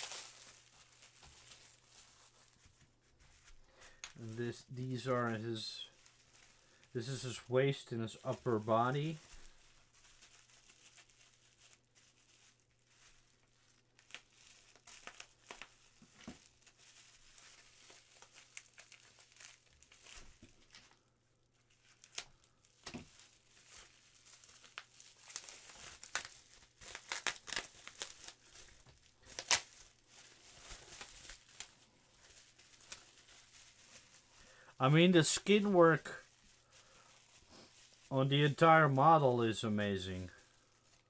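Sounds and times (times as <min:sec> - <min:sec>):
plastic bag crinkling: 0:00.0 - 0:41.0.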